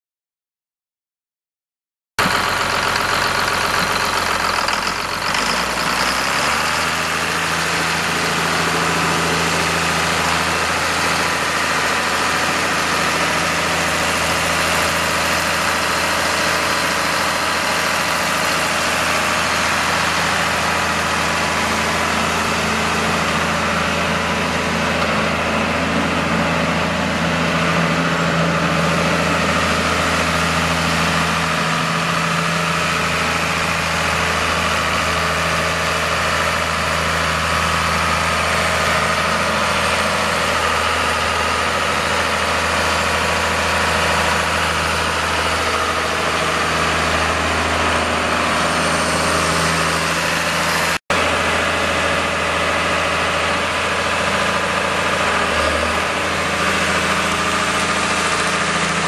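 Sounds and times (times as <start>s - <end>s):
tractor diesel engine idling: 2.2s - 59.0s.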